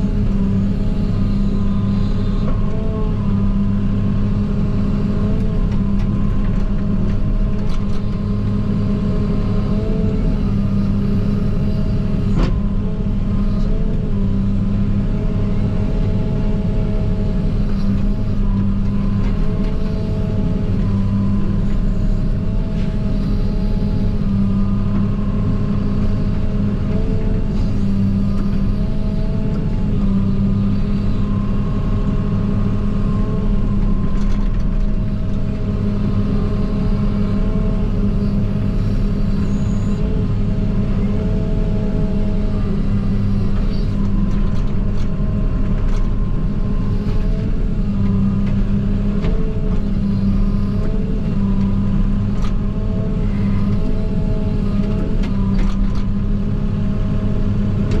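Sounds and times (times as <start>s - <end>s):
diesel engine running under load: 0.0s - 58.0s
hydraulic whine: 0.0s - 58.0s.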